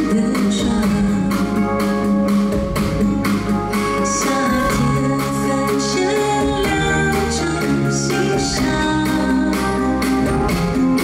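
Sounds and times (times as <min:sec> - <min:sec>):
live pop band: 0:00.0 - 0:11.0
woman singing lead: 0:00.0 - 0:11.0.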